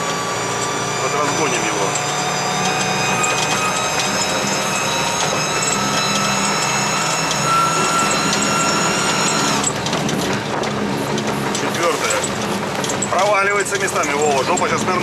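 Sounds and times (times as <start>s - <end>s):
mechanical whine: 0.0s - 15.0s
vehicle engine accelerating: 0.0s - 15.0s.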